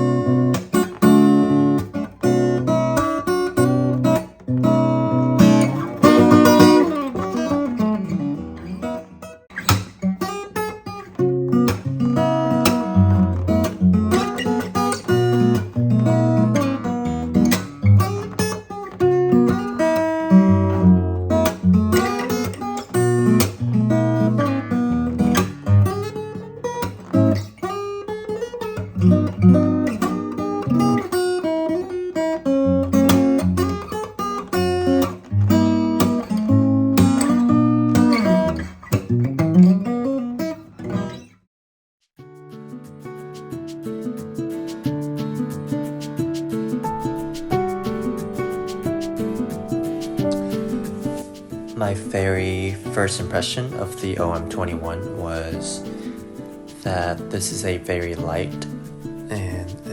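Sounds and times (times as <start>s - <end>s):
acoustic guitar picking and strumming: 0.0s - 41.4s, 42.2s - 59.9s.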